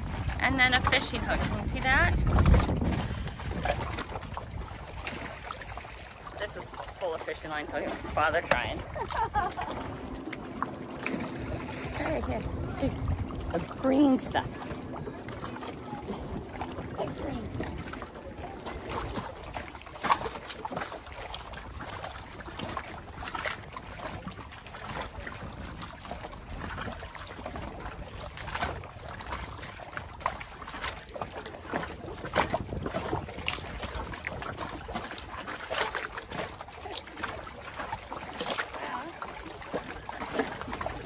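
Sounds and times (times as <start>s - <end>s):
water drips and splashes: 0.0s - 41.0s
water lapping against dock: 0.0s - 41.0s.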